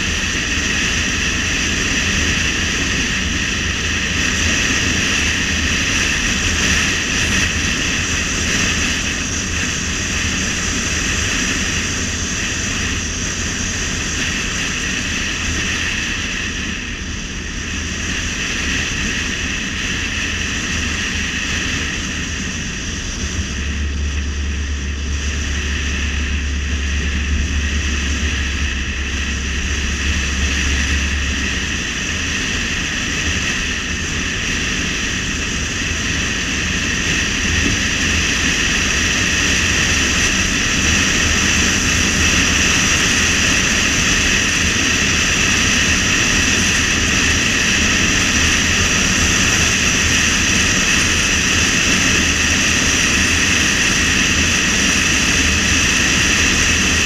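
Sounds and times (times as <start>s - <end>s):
car driving noise: 0.0s - 57.0s
low hum: 0.0s - 57.0s
steady whine: 0.0s - 57.0s.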